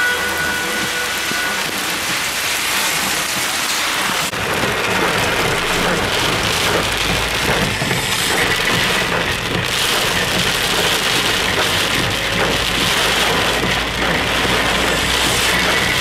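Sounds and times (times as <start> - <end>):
heavy rain pouring: 0.0 - 16.0
rain beating on car roof: 0.0 - 16.0.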